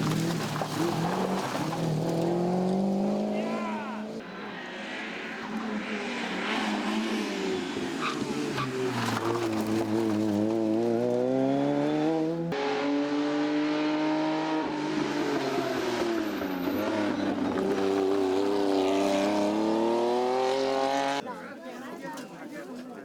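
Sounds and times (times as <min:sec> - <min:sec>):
rally car engine at full throttle: 0:00.0 - 0:21.2.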